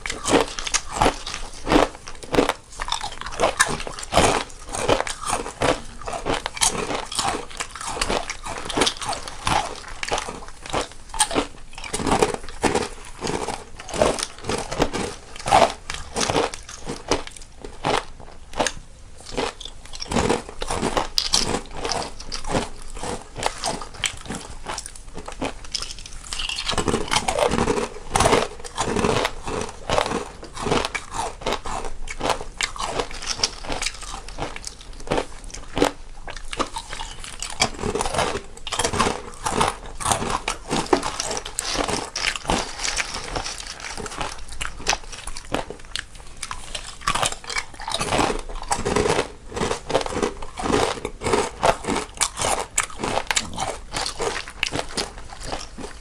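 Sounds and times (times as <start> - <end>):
people chewing crunchy snacks: 0.0 - 56.0.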